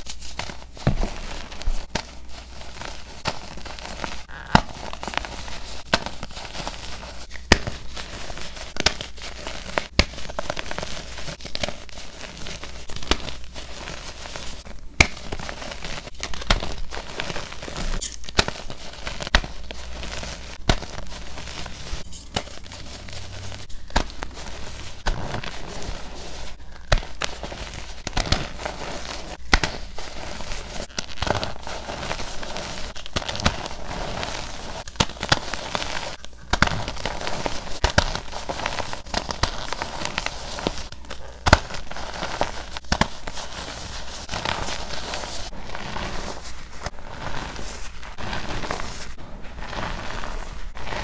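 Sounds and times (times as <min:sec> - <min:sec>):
chalk crunching and crackling: 0:00.0 - 0:51.0.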